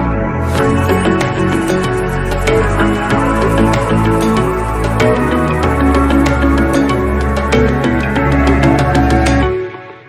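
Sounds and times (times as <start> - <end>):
electronic music with beat: 0.2 - 10.0.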